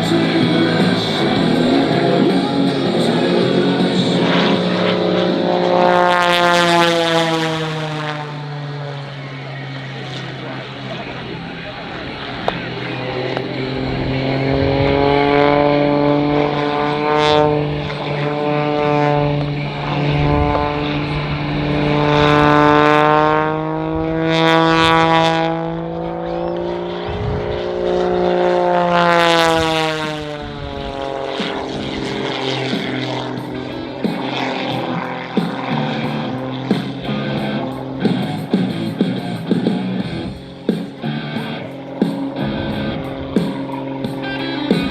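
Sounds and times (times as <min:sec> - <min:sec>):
propeller plane engine swooping: 0:00.0 - 0:44.9.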